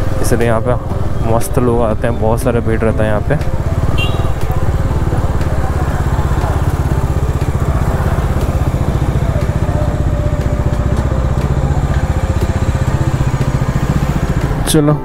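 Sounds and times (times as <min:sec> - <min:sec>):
motorcycle engine chugging: 0:00.0 - 0:15.0.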